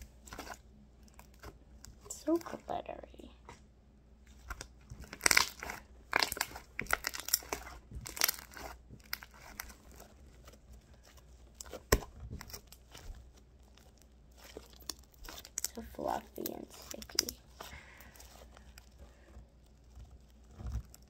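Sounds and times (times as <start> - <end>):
slime crackling and popping: 0.0 - 2.7, 4.3 - 21.0.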